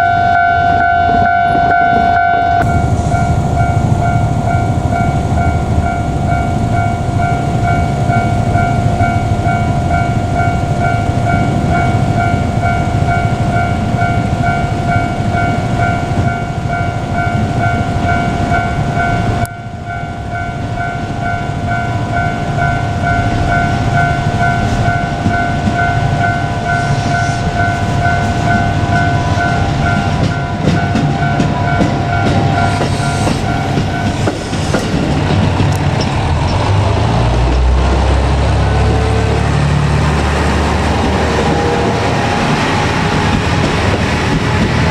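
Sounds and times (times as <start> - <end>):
diesel railcar passing: 0.0 - 44.9
level-crossing warning bell: 0.0 - 44.9.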